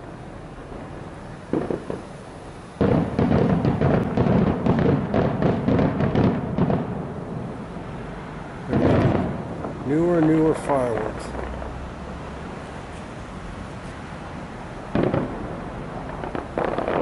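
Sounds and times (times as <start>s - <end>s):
fireworks bangs and crackles: 0.0s - 12.6s, 14.3s - 17.0s.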